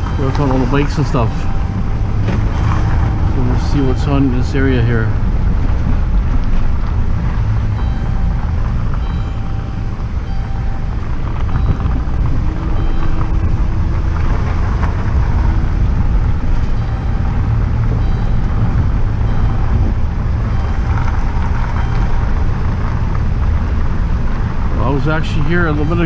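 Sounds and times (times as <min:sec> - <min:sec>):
truck engine and road rumble: 0:00.0 - 0:26.0
truck rattling: 0:00.0 - 0:26.0.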